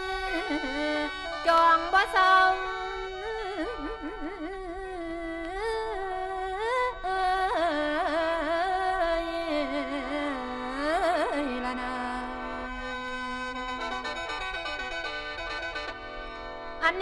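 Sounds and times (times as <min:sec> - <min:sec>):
person singing with vibrato: 0:00.0 - 0:14.2.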